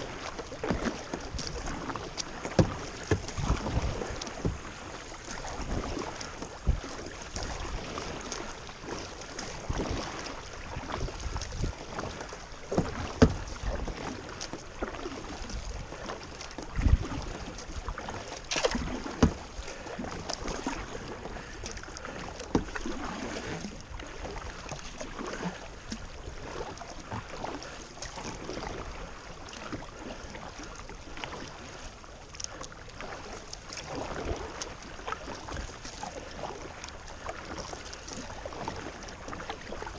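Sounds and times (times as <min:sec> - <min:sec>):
paddle strokes splashing in water: 0:00.0 - 0:39.9.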